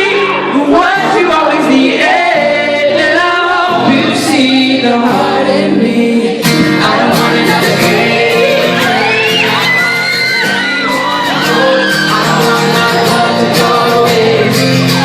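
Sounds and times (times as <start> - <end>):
guitar: 0.0 - 15.0
man singing pop song: 0.0 - 15.0.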